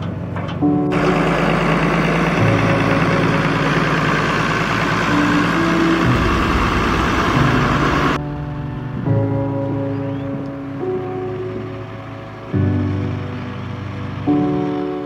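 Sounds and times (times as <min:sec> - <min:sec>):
tractor diesel engine idling: 0:00.0 - 0:08.2, 0:09.4 - 0:15.0.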